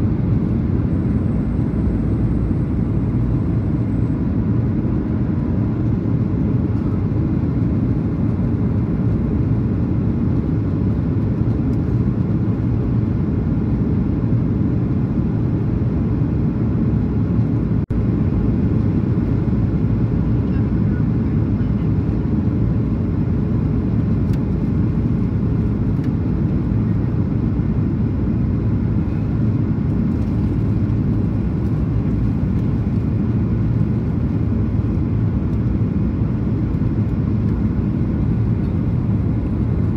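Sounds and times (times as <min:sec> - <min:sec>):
aircraft cabin engine noise: 0:00.0 - 0:39.9.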